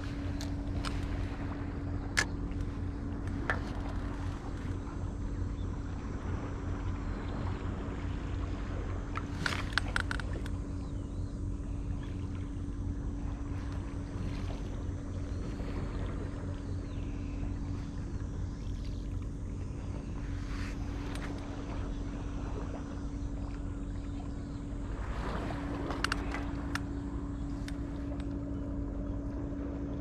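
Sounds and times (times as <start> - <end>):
faint steady hum: 0.0 - 30.0
wind rumbling on microphone: 0.0 - 30.0.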